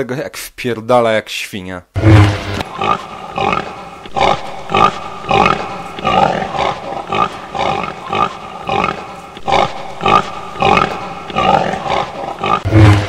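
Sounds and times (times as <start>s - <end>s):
pig grunting: 2.0s - 13.0s.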